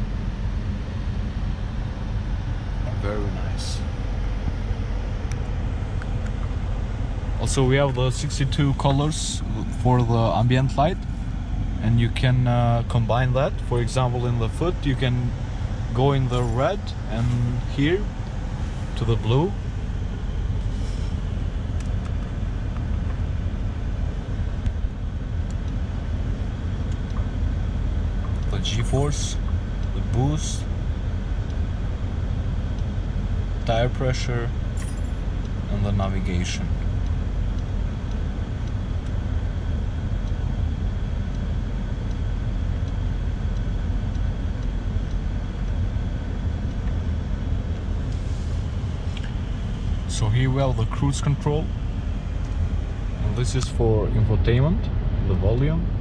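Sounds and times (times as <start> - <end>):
car engine idling: 0.0 - 54.7.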